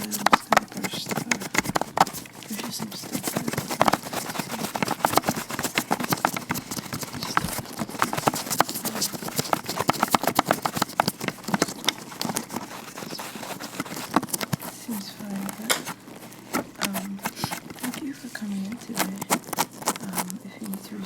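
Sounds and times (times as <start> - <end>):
gloved hands crinkling: 0.0 - 21.0.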